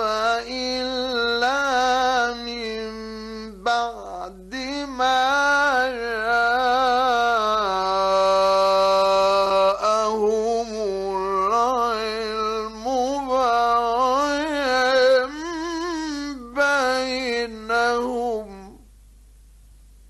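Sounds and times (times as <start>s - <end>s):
man reciting in melismatic chant: 0.0s - 18.8s.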